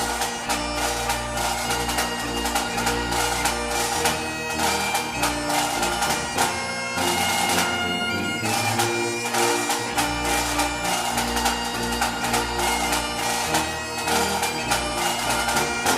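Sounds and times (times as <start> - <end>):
bagpipes playing melody: 0.0 - 15.9.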